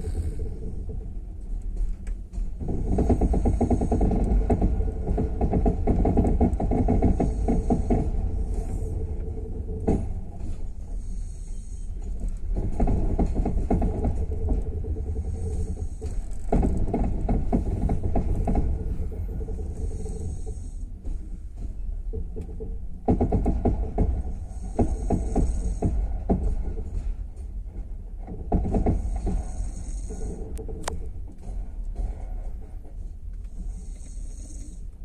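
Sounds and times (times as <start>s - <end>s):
wheels clattering over rail joints: 0.0s - 34.5s
train wheels rumbling on rails: 0.0s - 35.0s.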